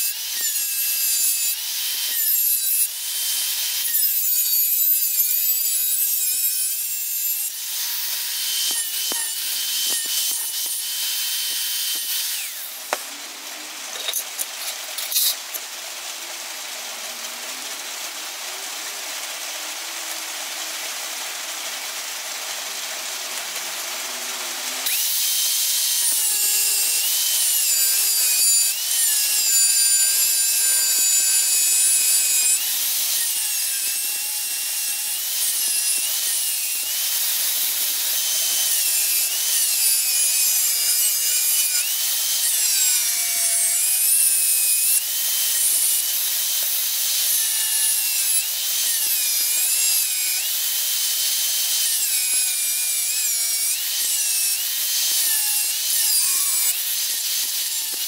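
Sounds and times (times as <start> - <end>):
angle grinder cutting metal: 0.0 - 58.0.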